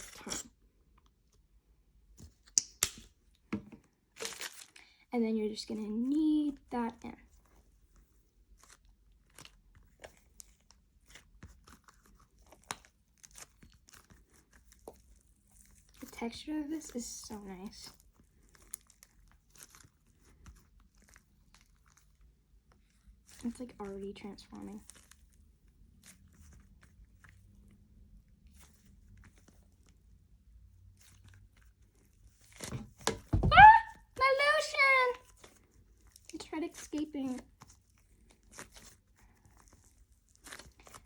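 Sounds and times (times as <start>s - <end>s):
sticky clay crackles: 6.5s - 41.0s.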